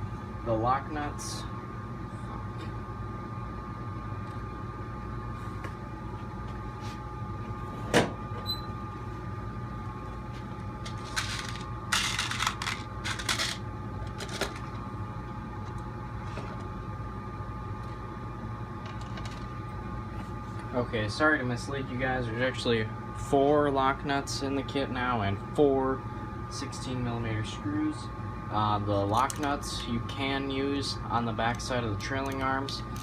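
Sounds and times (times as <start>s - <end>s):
workshop hum: 0.0s - 33.0s.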